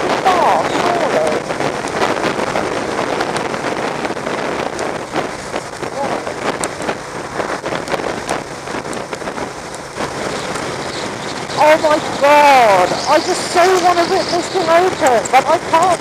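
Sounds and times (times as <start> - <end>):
vehicle and road noise: 0.0 - 16.0
wind rushing over microphone: 0.0 - 16.0.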